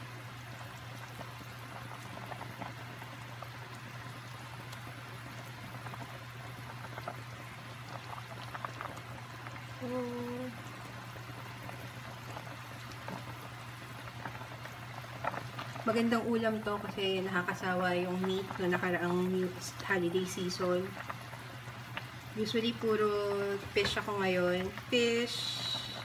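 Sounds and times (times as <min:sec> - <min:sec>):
broth bubbling and simmering: 0:00.0 - 0:26.0
steady low hum: 0:00.0 - 0:26.0.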